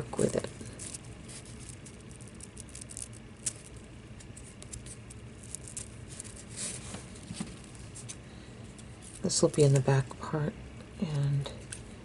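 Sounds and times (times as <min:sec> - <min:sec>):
ribbon rustling: 0:00.1 - 0:09.8.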